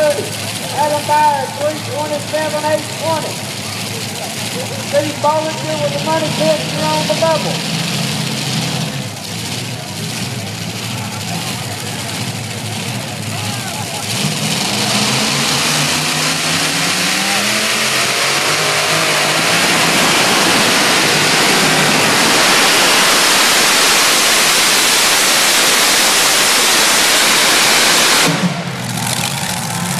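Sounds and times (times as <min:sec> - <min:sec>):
tractor engine running flat out: 0:00.0 - 0:29.9.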